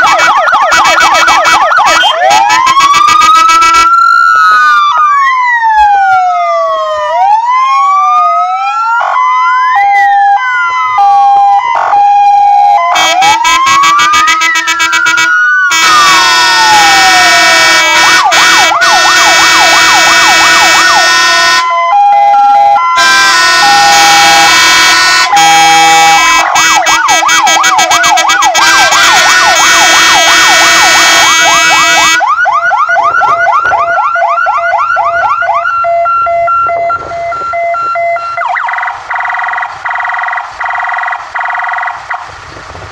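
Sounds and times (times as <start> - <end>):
fire engine sirens: 0.0 - 42.9.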